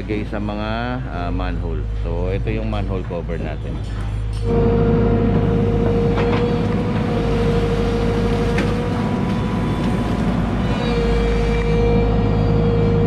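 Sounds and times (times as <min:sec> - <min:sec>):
excavator diesel engine whining: 0:00.0 - 0:13.0.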